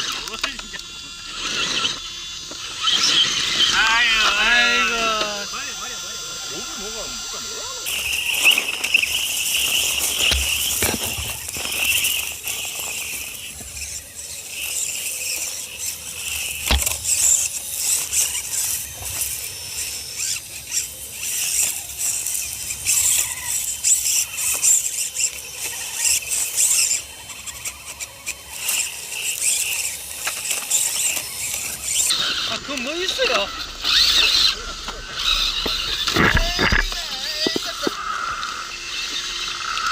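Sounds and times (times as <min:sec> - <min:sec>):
electric motor and gearbox whining: 0:00.0 - 0:39.9.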